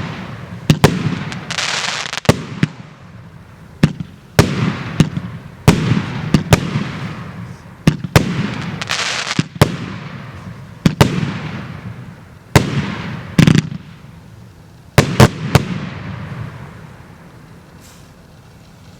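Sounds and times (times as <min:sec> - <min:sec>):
fireworks bangs: 0:00.0 - 0:14.3, 0:14.9 - 0:18.3
hiss of firework bursts: 0:00.0 - 0:18.9.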